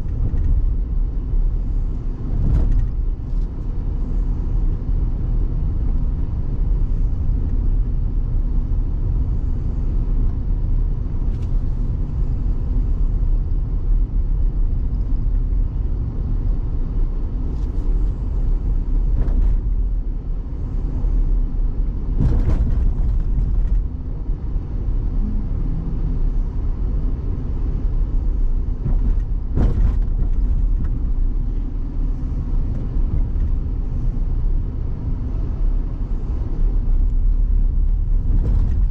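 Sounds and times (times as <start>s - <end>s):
vehicle rumbling on dirt road: 0.0s - 38.9s.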